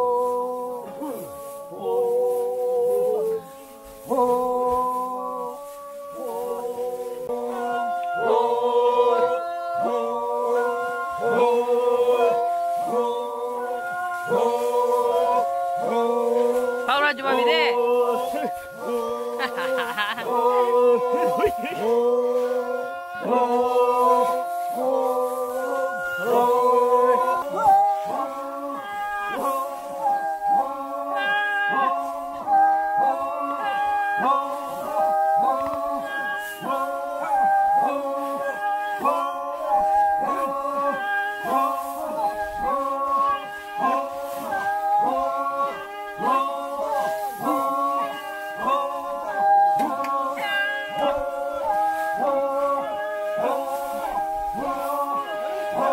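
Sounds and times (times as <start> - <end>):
person singing wordless melody: 0.0 - 55.9.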